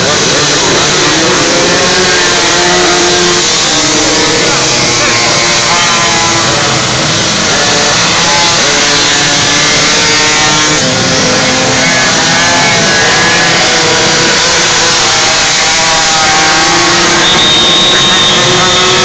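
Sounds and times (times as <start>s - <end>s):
pocket bike engines revving: 0.0s - 19.0s.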